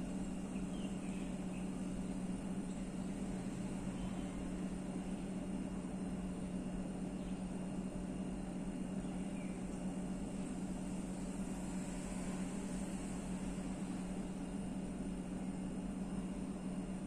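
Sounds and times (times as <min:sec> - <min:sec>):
rice cooker humming and hissing: 0:00.0 - 0:17.0.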